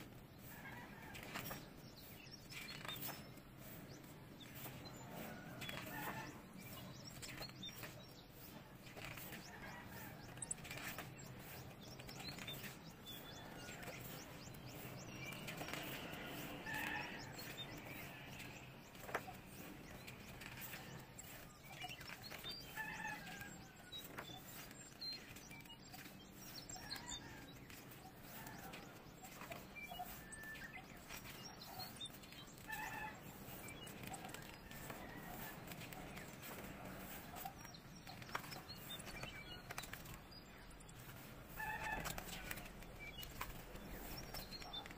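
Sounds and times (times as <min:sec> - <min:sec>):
book pages turning: 0:00.8 - 0:08.0, 0:08.8 - 0:40.3, 0:41.0 - 0:44.9.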